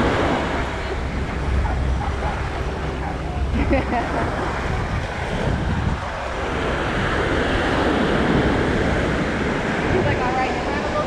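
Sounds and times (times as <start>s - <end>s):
ocean surf on sandy beach: 0.0s - 11.0s
wind on microphone: 0.0s - 11.0s.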